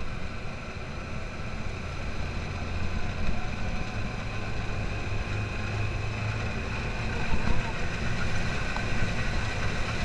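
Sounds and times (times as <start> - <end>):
buggy engine running: 0.0 - 10.0
road noise: 0.0 - 10.0.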